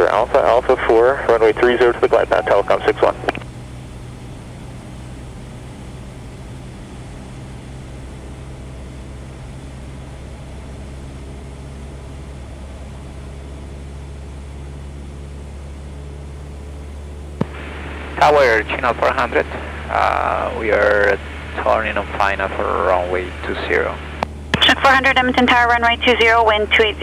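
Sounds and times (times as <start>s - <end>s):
airplane engine droning: 0.0s - 27.0s.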